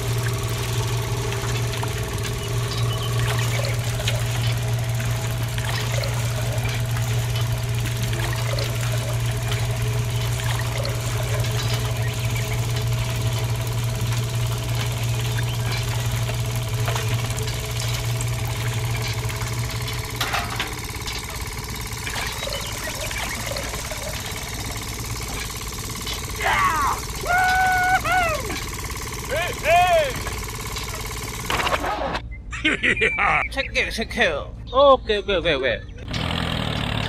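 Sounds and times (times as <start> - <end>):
small electric motor humming: 0.0 - 31.8.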